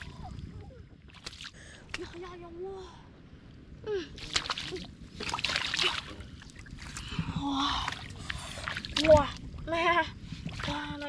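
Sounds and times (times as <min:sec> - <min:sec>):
muddy water splashing: 0:00.0 - 0:02.6, 0:04.0 - 0:11.0.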